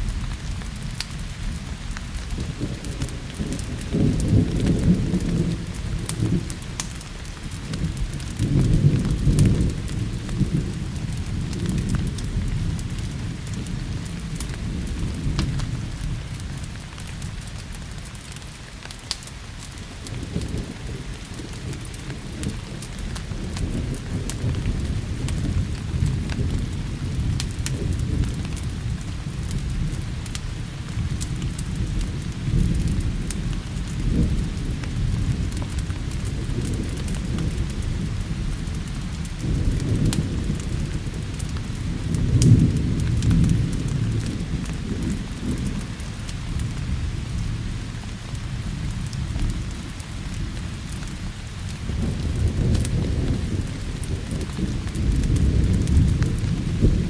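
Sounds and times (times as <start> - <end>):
rolling thunder: 0.0 - 17.7, 19.8 - 57.0
steady rain: 0.0 - 57.0
wood fire crackling: 0.0 - 57.0.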